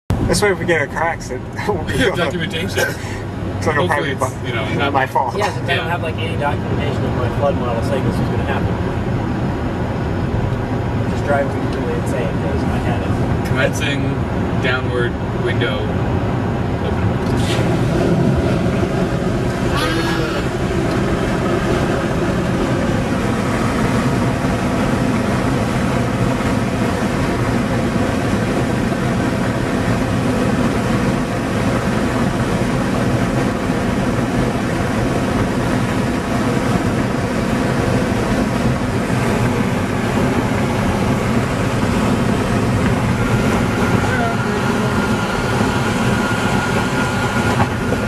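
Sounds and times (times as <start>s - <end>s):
engine and tyre hum: 0.1s - 48.0s
road noise: 0.1s - 48.0s
wind rushing through car window: 1.4s - 48.0s.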